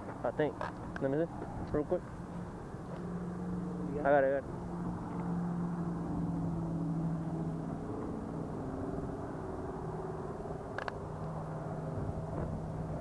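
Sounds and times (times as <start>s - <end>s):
higher-pitched engine drone: 0.0s - 13.0s
low engine drone: 0.0s - 13.0s
road traffic hum: 0.0s - 13.0s.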